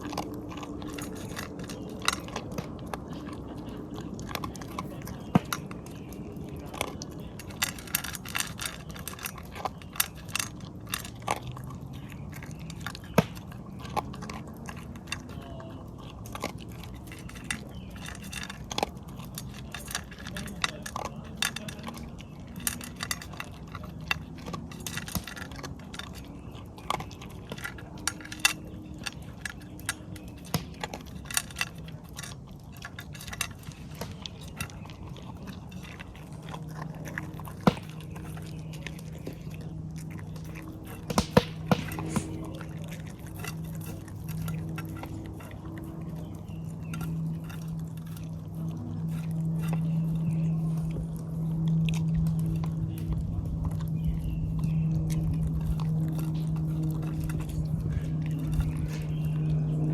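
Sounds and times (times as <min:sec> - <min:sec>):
dog chewing and crunching: 0:00.0 - 0:59.9.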